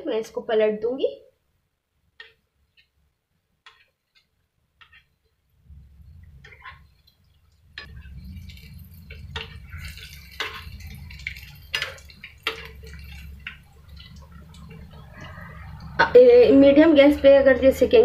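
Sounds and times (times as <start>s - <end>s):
deep-frying sizzle in oil: 2.2s - 18.0s.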